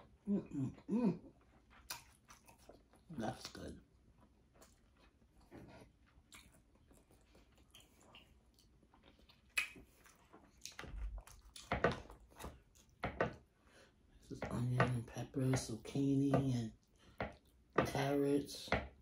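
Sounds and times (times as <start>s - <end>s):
person chewing food: 0.0s - 17.9s.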